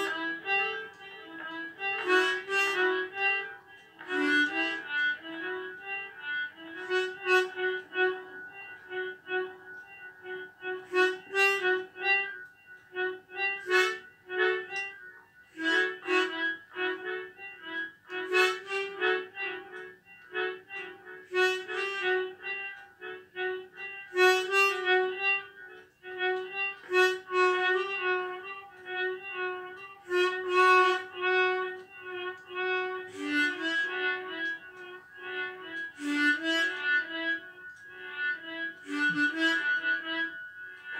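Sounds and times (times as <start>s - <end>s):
harmonica melody: 0.0s - 40.9s.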